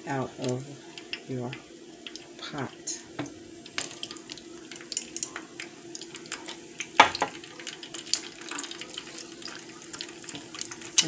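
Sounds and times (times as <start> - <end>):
chicken deep-frying in hot oil: 0.0 - 11.0.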